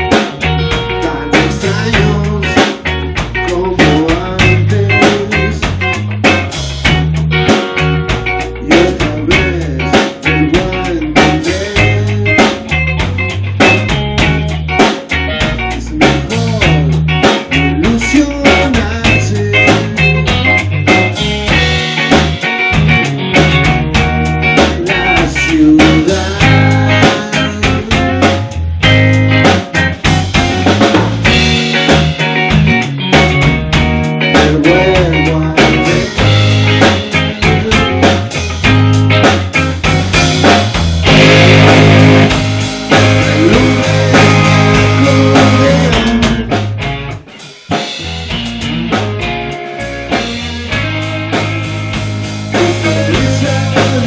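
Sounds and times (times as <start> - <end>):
rock band playing: 0.0 - 54.0
wavering lead guitar line: 0.0 - 54.0.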